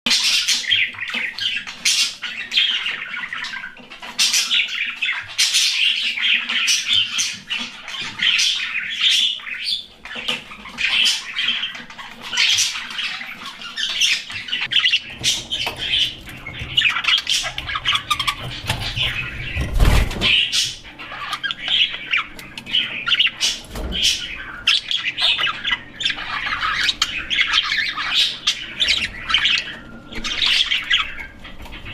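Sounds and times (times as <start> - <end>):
budgerigars chirping and chattering: 0.1 - 31.9.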